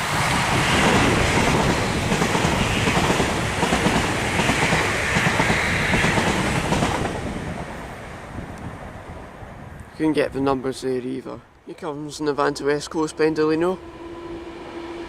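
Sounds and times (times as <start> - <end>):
train passing at speed: 0.0 - 10.7, 12.1 - 15.0.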